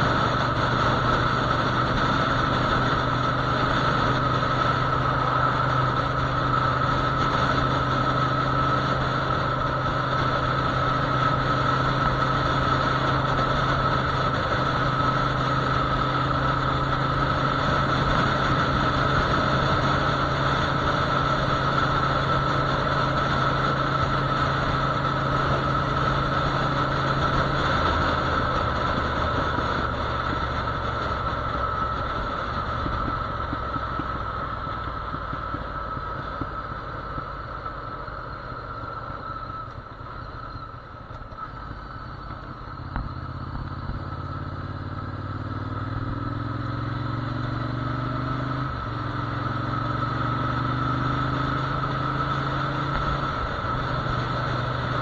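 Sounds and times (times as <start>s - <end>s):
wind rush: 0.0s - 44.5s
motorcycle engine running: 0.0s - 55.0s.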